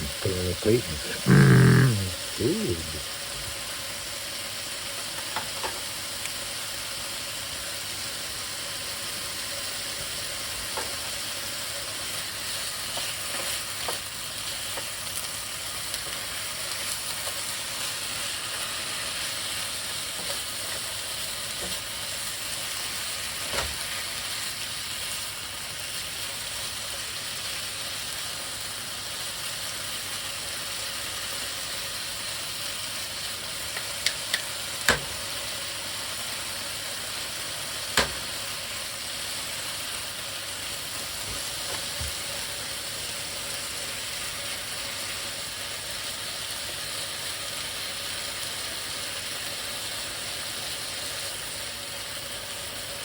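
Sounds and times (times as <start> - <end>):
stir fry sizzling in a hot pan: 2.5 - 53.0.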